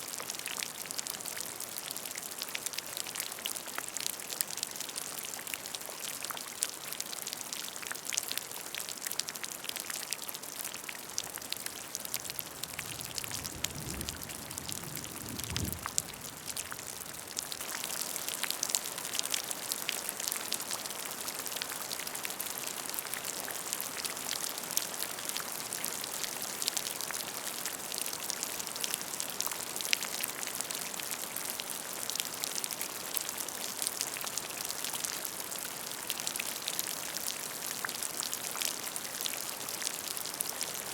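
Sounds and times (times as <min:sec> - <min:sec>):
rain falling into puddle: 0:00.0 - 0:40.9.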